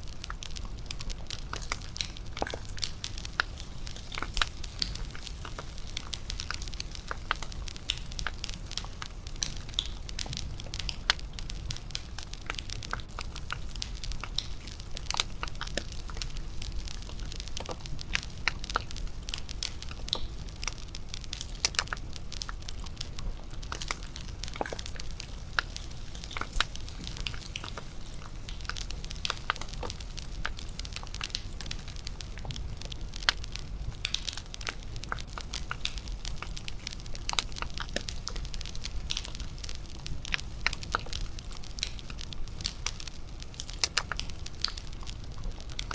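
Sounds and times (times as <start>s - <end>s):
low rumble of burning fire: 0.0s - 45.9s
wood bonfire crackling and popping: 0.0s - 45.9s.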